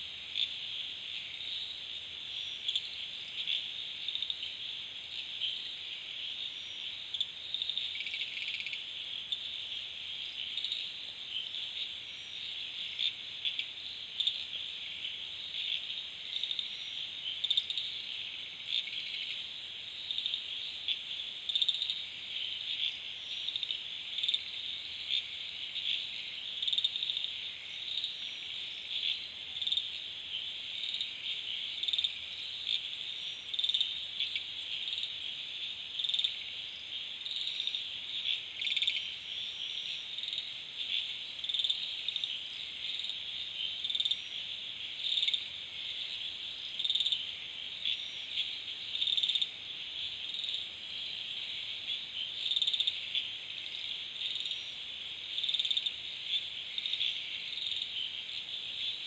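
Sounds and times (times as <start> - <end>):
crickets and insects trilling: 0.0 - 59.0
frogs: 0.0 - 59.0.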